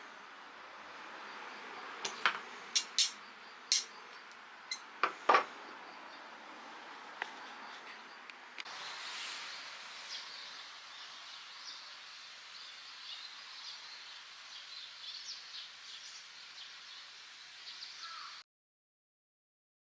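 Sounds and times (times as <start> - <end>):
outdoor background hiss: 0.0 - 18.4.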